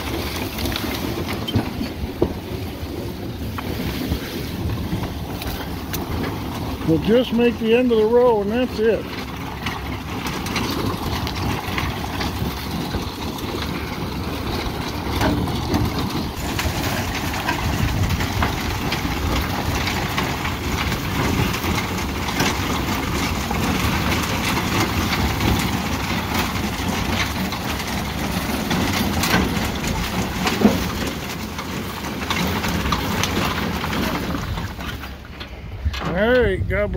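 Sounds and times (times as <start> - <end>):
engine running with low rumble: 0.0 - 36.9.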